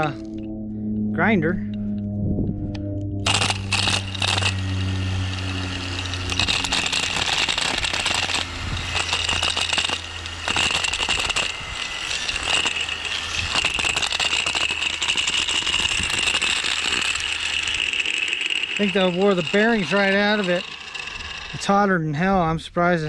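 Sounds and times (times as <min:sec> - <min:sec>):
angle grinder rattling and whining: 0:00.0 - 0:00.9, 0:02.6 - 0:22.3.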